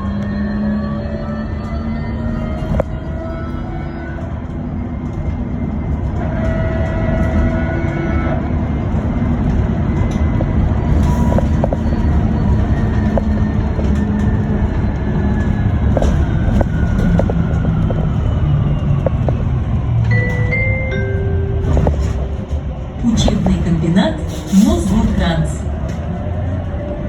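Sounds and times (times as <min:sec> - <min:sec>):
road and tyre rumble: 0:00.0 - 0:27.0.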